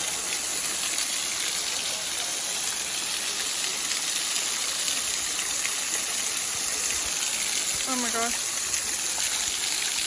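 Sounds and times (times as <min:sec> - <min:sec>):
waterfall water rushing: 0:00.0 - 0:10.0.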